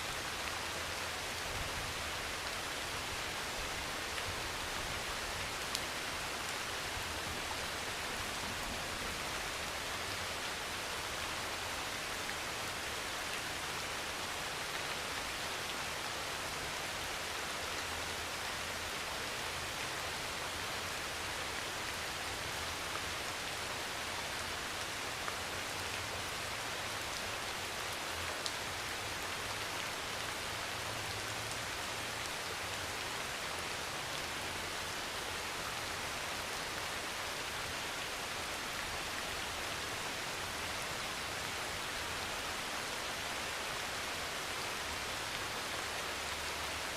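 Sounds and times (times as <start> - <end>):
heavy rain on a metal roof: 0.0 - 46.9.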